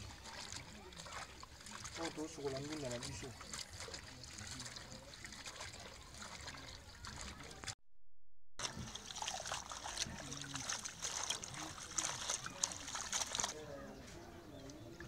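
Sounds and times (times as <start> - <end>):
water sloshing in a plastic basin: 0.0 - 7.8, 8.6 - 15.0.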